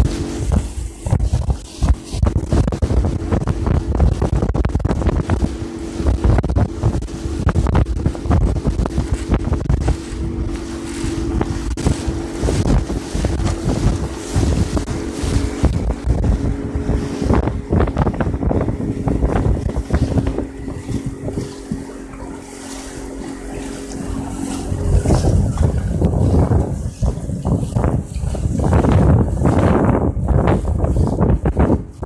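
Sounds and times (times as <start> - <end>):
outboard motor running: 0.0 - 32.0
wind buffeting microphone: 0.0 - 32.0.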